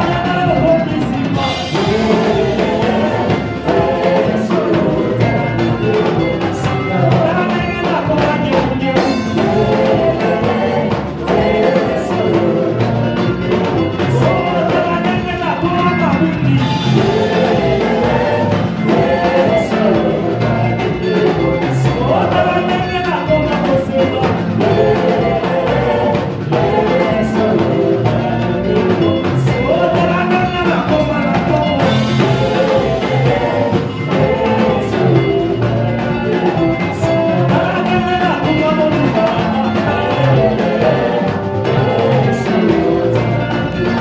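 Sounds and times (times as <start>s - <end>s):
live worship band music: 0.0s - 44.0s.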